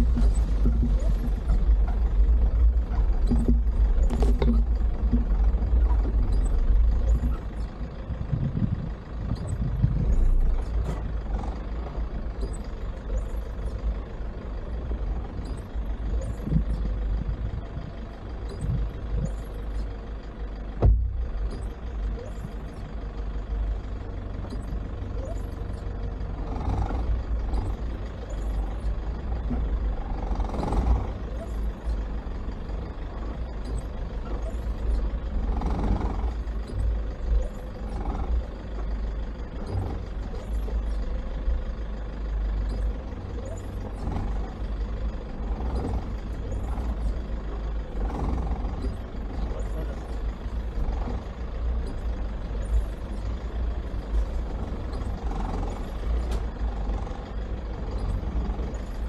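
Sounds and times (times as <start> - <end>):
suv engine rumble off-road: 0.0 - 59.0.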